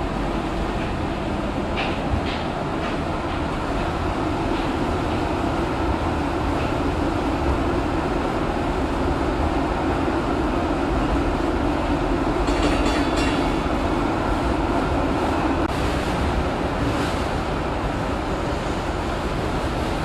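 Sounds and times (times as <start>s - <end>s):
tram motors and wheels humming: 0.0s - 20.0s.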